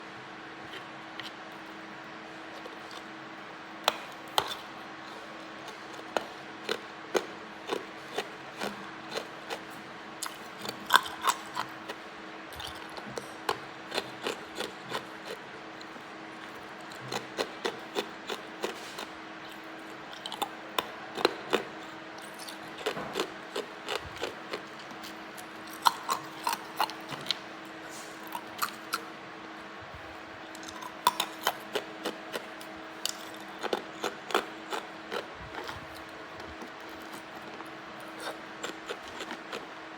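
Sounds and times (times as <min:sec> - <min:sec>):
faint steady hum: 0:00.0 - 0:39.9
ice being chewed: 0:02.5 - 0:03.2, 0:04.3 - 0:27.5, 0:28.2 - 0:29.1, 0:30.5 - 0:39.8.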